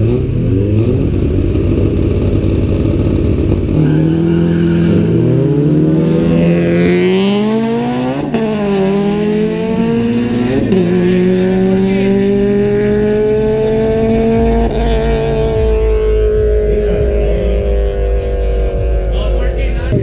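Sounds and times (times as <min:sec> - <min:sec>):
car engine accelerating through gears: 0:00.0 - 0:20.0.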